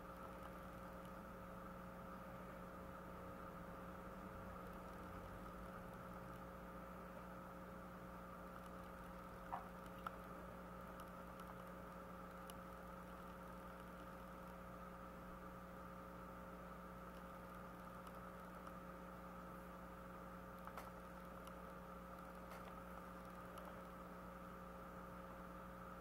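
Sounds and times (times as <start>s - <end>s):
faint electrical hum and hiss: 0.0s - 26.0s.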